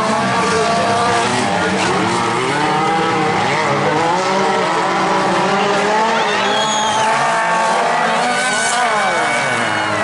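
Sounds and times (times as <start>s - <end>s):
stock car engines racing: 0.0s - 10.0s.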